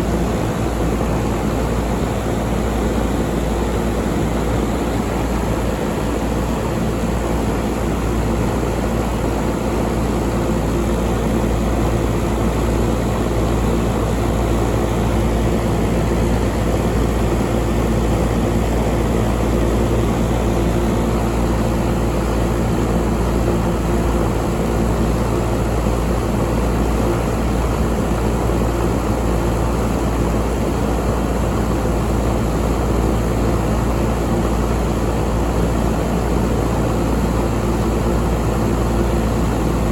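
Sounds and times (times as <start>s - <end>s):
air conditioner humming: 0.0s - 39.9s
fan rushing: 0.0s - 39.9s.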